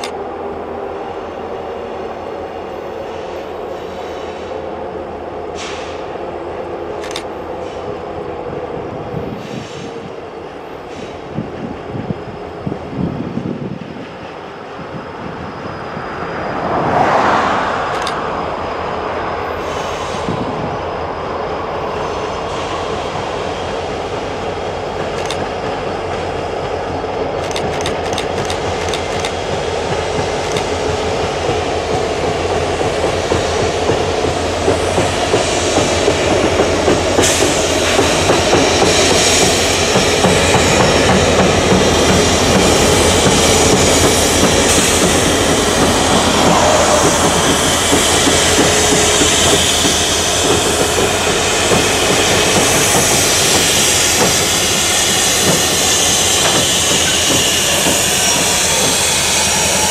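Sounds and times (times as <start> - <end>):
diesel locomotives passing: 0.0 - 59.9
wheels rumbling over rails: 10.6 - 20.8, 21.8 - 59.9.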